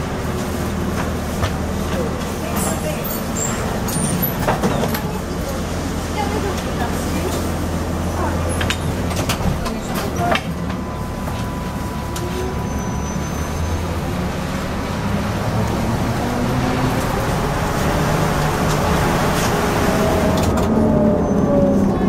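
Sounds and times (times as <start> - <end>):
trolleybus running: 0.0 - 22.0.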